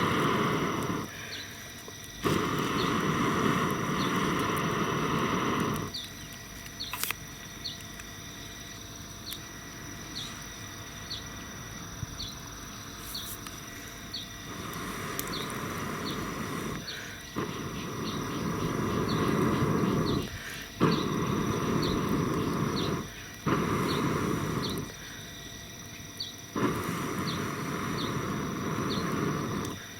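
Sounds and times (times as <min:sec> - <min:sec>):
insect buzzing: 0:00.0 - 0:29.9.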